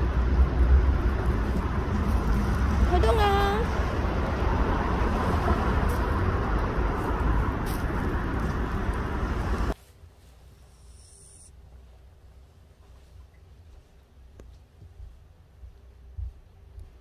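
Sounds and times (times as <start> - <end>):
outdoor rumble with hiss: 0.0 - 17.0.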